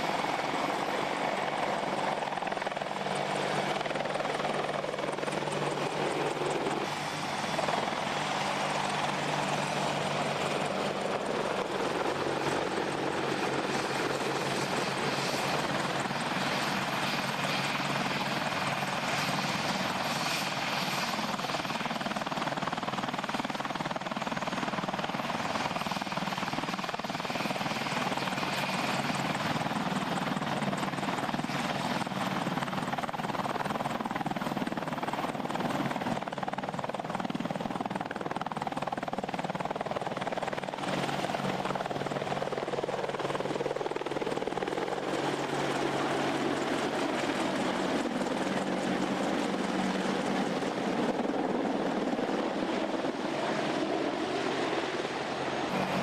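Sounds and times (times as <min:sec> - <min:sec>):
helicopter engines and rotors: 0:00.0 - 0:56.0.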